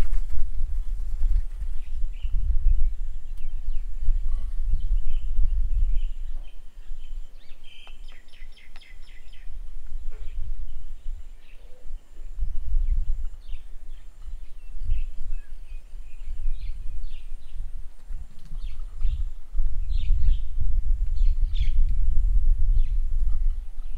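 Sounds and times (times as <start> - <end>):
wind buffeting microphone: 0.0 - 23.9
small birds chirping: 0.2 - 23.9.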